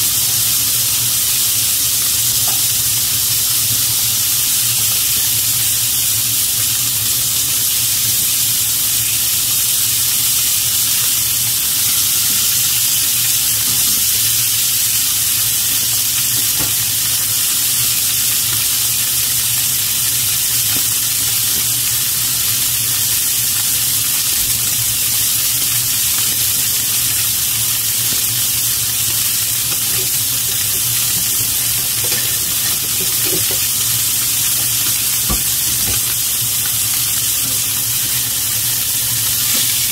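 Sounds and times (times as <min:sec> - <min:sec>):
pork sizzling in frying pan: 0:00.0 - 0:39.9.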